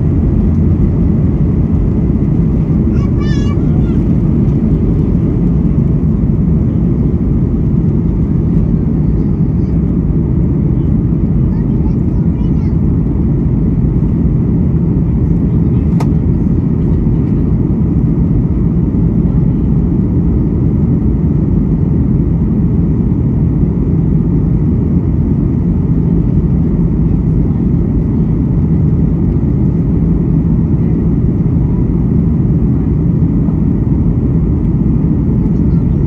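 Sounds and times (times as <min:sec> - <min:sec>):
jet engine cabin roar: 0:00.0 - 0:36.0.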